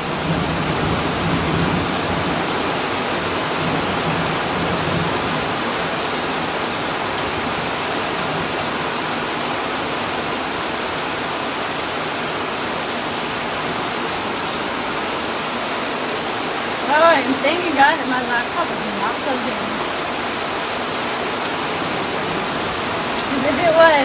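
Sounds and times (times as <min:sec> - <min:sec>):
steady rain hissing: 0:00.0 - 0:24.0.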